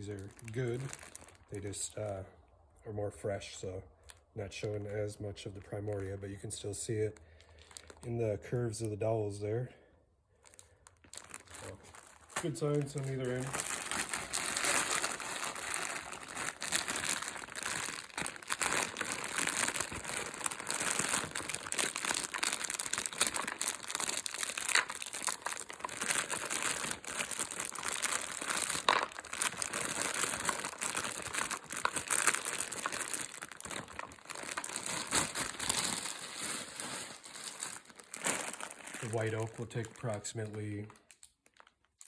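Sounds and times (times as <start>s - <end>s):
plastic bag crinkling: 0.0s - 1.8s, 4.0s - 9.2s, 10.3s - 42.0s.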